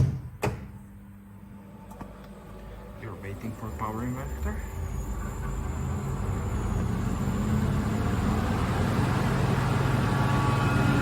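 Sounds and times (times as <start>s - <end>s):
air compressor motor ramping up: 0.2s - 11.0s.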